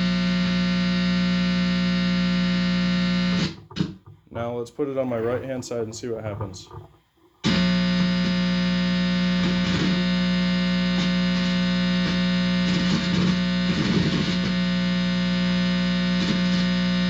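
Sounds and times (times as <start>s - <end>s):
guitar amplifier buzzing: 0.0s - 4.4s, 6.4s - 17.0s.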